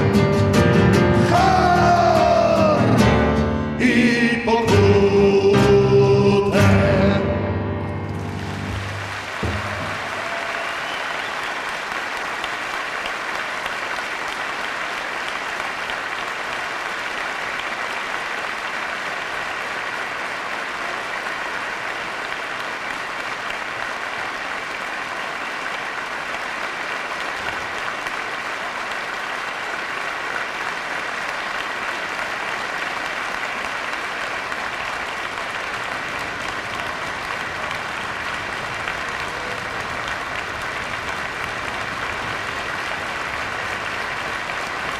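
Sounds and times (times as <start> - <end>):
audience applauding: 0.0 - 4.1, 7.7 - 44.9.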